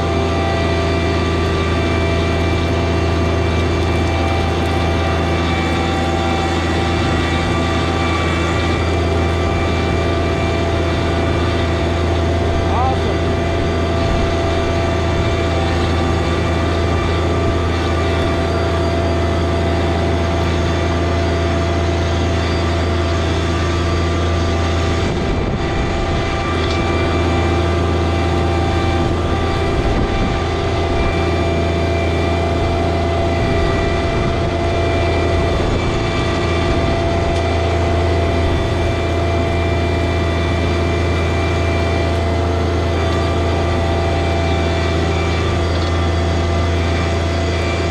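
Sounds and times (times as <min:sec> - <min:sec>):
engine whine: 0:00.0 - 0:47.9
tractor diesel engine running: 0:00.0 - 0:47.9.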